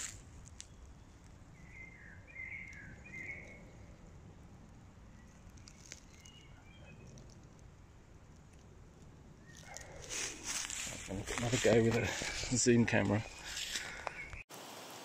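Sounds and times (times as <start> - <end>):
faint low outdoor rumble: 0.0 - 14.1.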